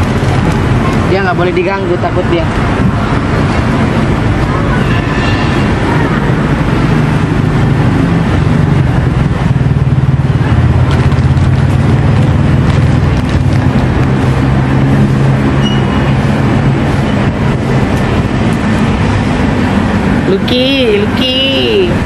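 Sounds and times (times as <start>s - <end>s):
motor vehicle engine running: 0.0s - 4.8s, 5.4s - 22.0s.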